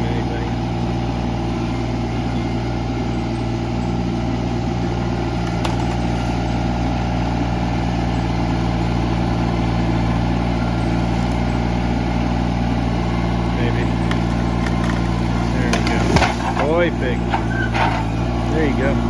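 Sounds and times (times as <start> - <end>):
diesel engine under load: 0.0 - 19.0.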